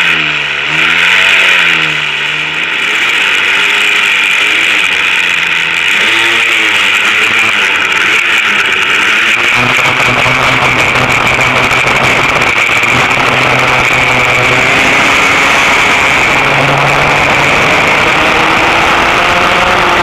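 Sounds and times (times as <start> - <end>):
go-kart engines running: 0.0 - 20.0.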